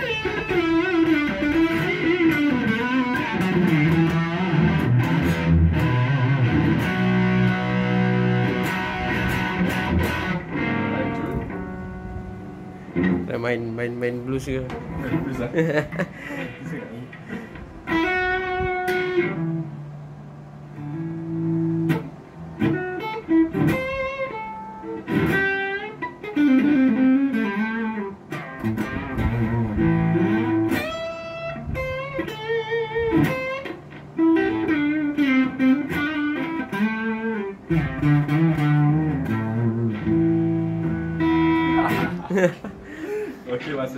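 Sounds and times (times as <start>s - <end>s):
blues electric guitar lead: 0.0s - 43.9s.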